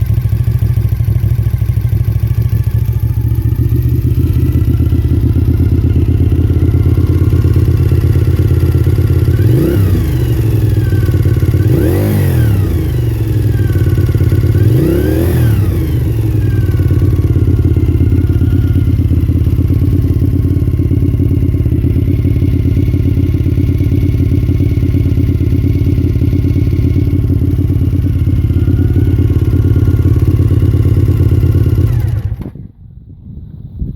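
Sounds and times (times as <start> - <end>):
motorcycle engine idling: 0.0 - 33.6
engine revving: 2.9 - 32.6.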